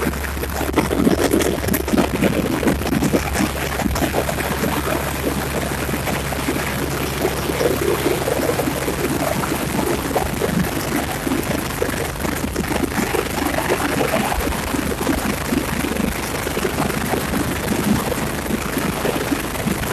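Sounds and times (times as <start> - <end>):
constant rushing noise: 0.0 - 19.9.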